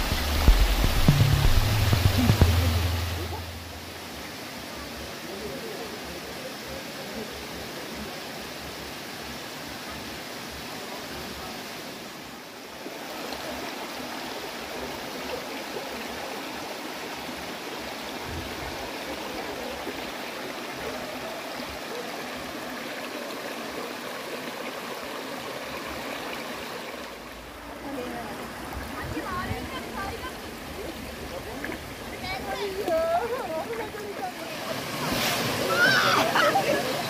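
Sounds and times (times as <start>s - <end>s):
stream babbling over stones: 0.0s - 37.0s.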